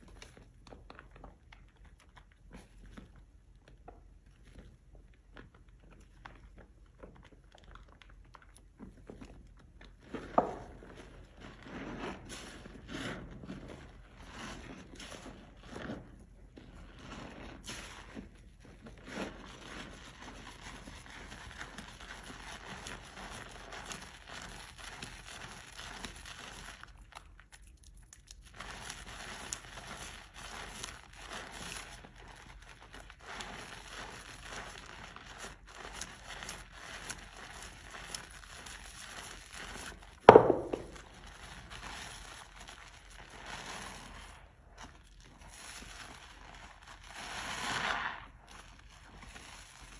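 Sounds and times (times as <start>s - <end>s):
wet soap squishing and crunching: 0.0s - 49.9s.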